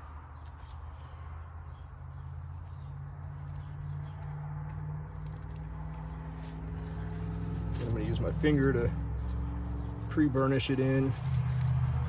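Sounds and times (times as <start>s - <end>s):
steady low hum: 1.4s - 12.0s.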